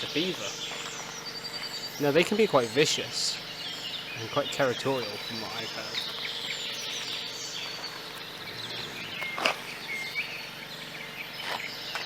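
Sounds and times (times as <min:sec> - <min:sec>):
high-pitched background hiss: 0:00.0 - 0:12.0
short bird chirps: 0:00.0 - 0:12.0.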